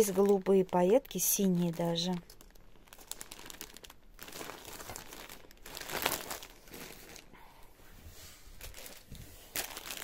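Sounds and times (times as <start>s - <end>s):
plastic bag crinkling: 0.0s - 7.4s, 8.6s - 10.0s.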